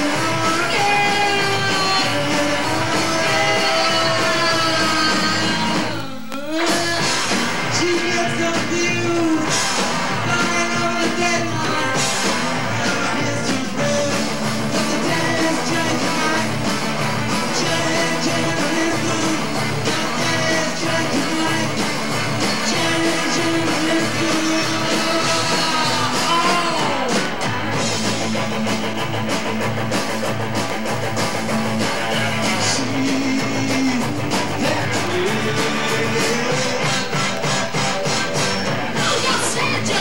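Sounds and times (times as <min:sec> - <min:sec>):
punk rock band with singer: 0:00.0 - 0:40.0.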